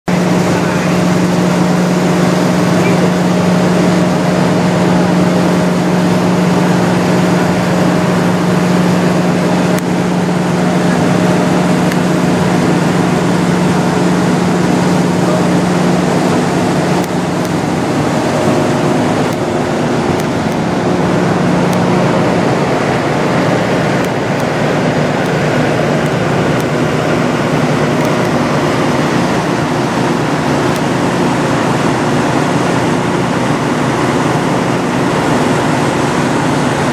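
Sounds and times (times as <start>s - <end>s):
diesel truck engine idling: 0.1s - 36.9s.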